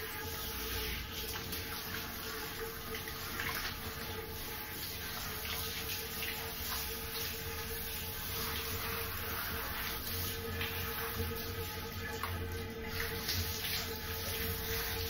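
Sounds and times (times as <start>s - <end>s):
shower spraying water on dog: 0.0s - 15.0s.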